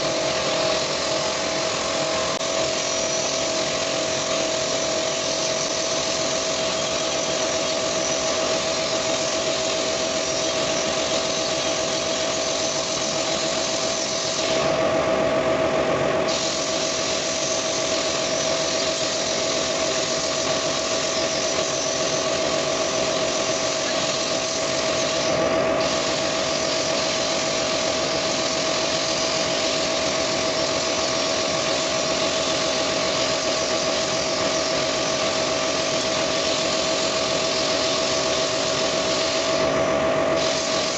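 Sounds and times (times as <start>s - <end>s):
high hiss: 0.0s - 14.9s, 16.3s - 40.9s
machine running with whine: 0.0s - 40.9s.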